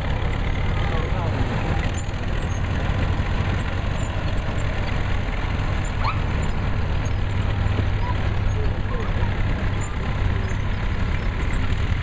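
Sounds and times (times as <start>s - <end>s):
tractor engines humming: 0.0s - 12.0s.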